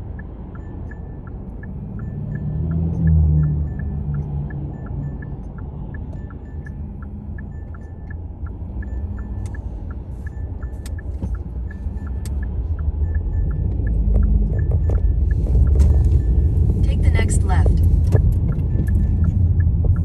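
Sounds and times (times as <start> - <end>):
road rumble inside moving car: 0.0 - 20.0.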